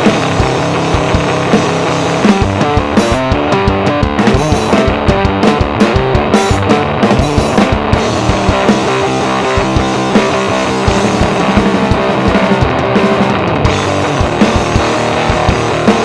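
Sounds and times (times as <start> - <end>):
drum kit beat: 0.0 - 16.0
fuzzed bass guitar riff: 0.0 - 16.0.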